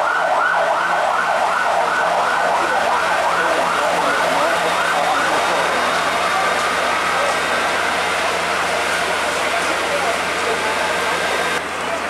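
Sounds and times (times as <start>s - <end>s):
fire engine siren yelping: 0.0s - 11.8s.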